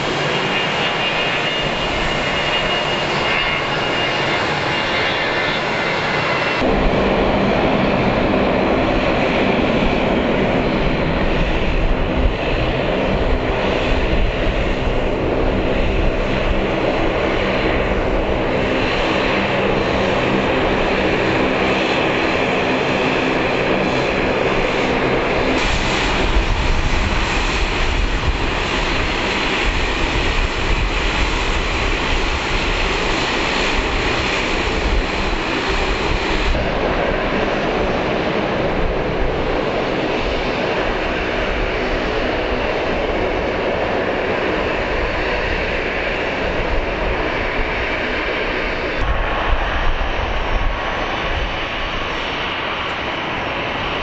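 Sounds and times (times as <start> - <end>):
jet engine rush: 0.0 - 54.0
turboprop engines droning: 0.0 - 54.0.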